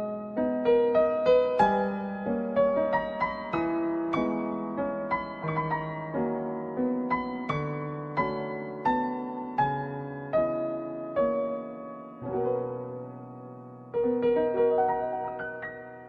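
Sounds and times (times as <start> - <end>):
slow gentle solo piano: 0.0 - 16.0.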